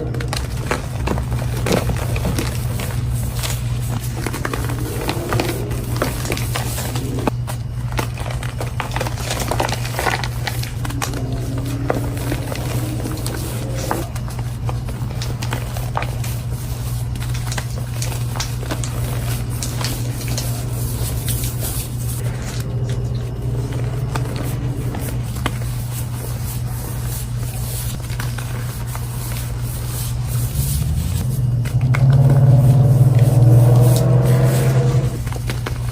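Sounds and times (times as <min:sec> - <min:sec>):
concrete mixer humming: 0:00.0 - 0:35.9
concrete scraping and crackling: 0:00.0 - 0:35.9.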